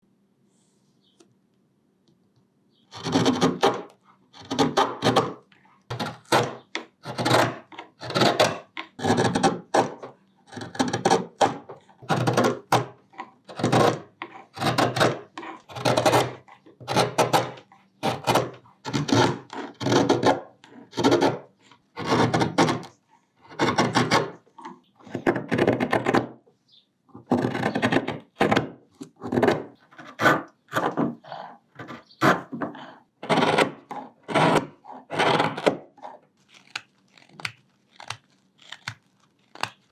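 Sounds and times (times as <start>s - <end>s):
carving blade scraping wood: 2.9s - 26.3s, 27.3s - 39.9s.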